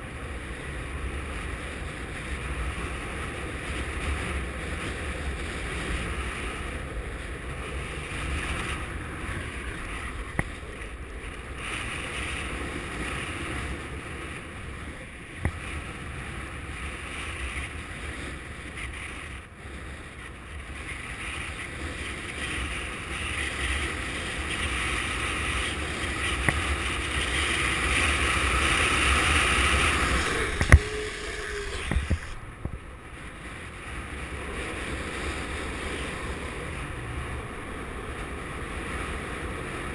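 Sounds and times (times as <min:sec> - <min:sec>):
longboard wheels rolling on asphalt: 0:00.0 - 0:39.9
wind buffeting microphone: 0:00.0 - 0:39.9.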